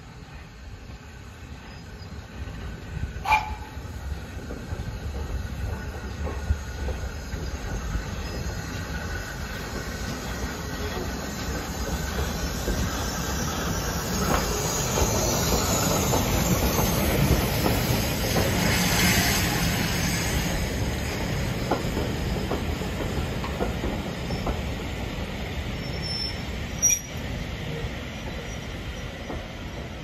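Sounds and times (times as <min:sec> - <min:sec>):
steam hissing: 0:00.1 - 0:30.0.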